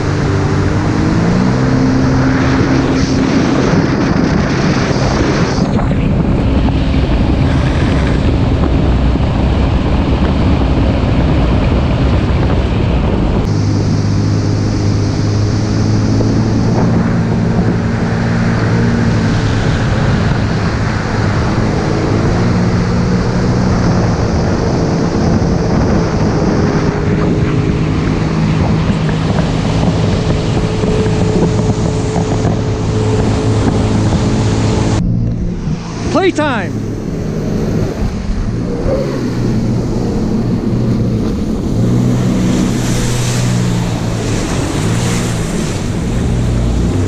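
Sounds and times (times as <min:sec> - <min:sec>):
jet ski engine running: 0:00.0 - 0:47.0
water rushing past hull: 0:00.0 - 0:47.0
wind buffeting microphone: 0:00.0 - 0:47.0.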